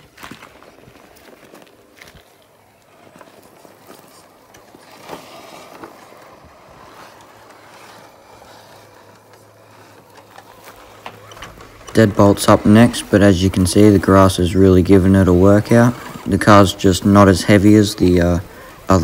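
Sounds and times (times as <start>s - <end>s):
electric motor and gear hum: 0.0s - 19.0s
grass brushing against toy truck: 0.0s - 19.0s.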